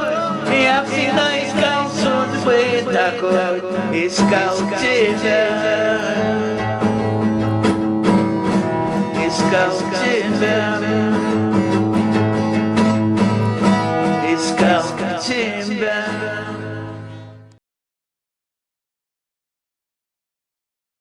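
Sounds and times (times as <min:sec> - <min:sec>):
pop backing track with guitar: 0:00.0 - 0:17.6.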